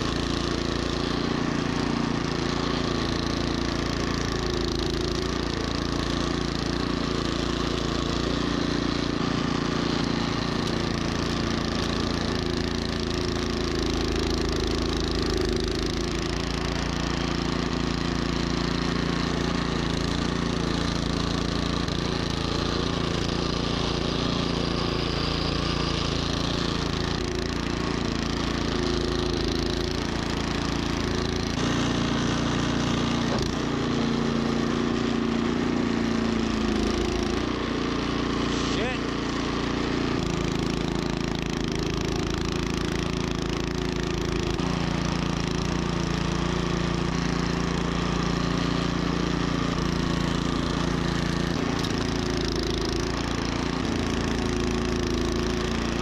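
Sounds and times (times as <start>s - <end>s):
snowblower engine droning: 0.0s - 56.0s.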